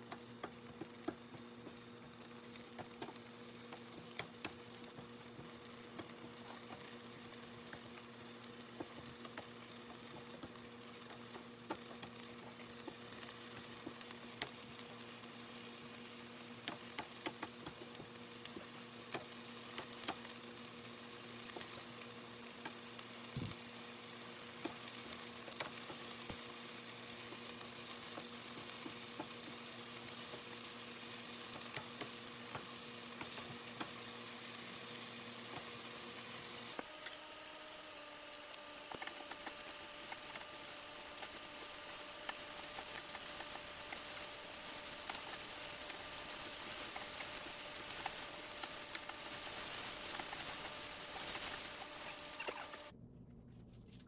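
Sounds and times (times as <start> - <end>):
meat sizzling in a frying pan: 0.0 - 52.9.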